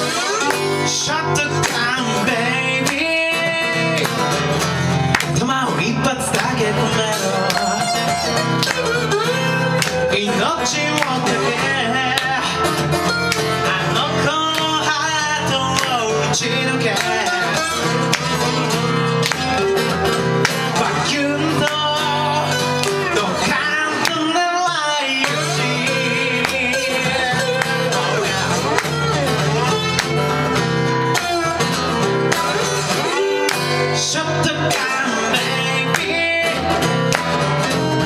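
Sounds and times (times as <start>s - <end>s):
acoustic guitars strumming: 0.0s - 38.0s
man singing: 0.0s - 38.0s.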